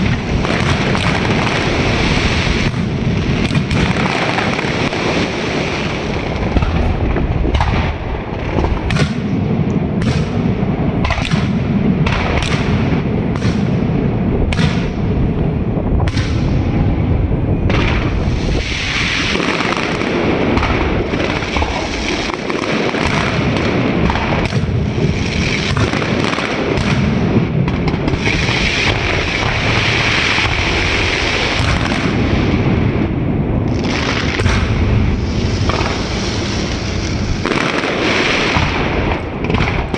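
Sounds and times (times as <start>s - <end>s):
fireworks bursts: 0.0s - 39.9s
fireworks crackling: 0.0s - 39.9s.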